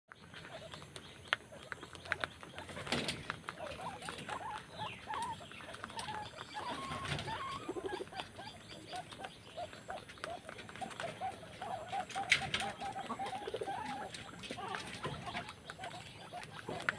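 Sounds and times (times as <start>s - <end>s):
guinea pigs squeaking: 0.1s - 16.9s.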